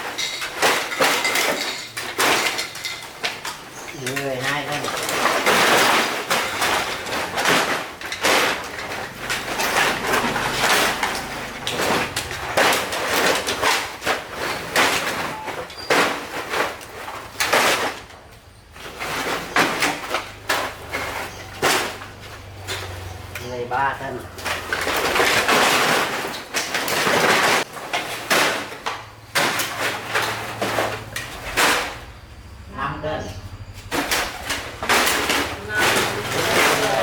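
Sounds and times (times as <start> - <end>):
scrap metal clattering and clanking: 0.0 - 37.0.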